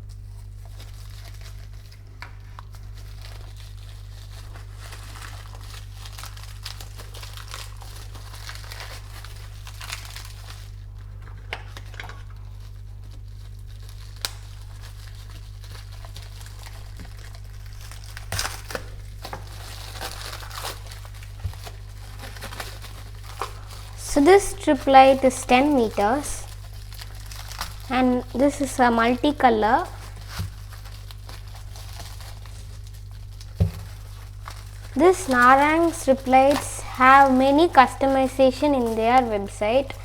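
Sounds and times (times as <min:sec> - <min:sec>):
plastic packaging crinkling and tearing: 0:00.0 - 0:40.0
steady low hum: 0:00.0 - 0:40.0.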